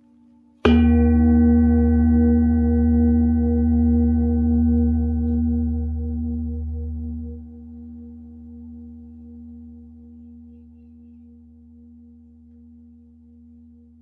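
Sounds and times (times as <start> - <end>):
singing bowl ringing: 0.6 - 14.0.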